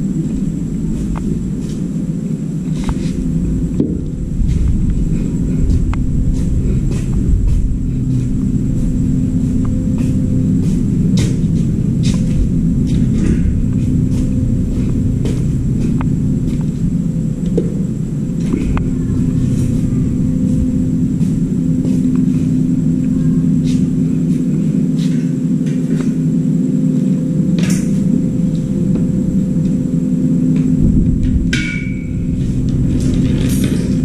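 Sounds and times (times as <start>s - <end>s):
loud machine hum: 0.0s - 34.0s.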